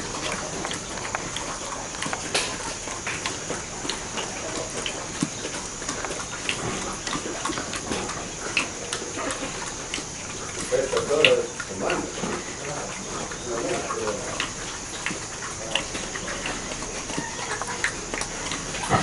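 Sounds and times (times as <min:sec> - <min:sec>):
pig eating off floor: 0:00.0 - 0:19.0.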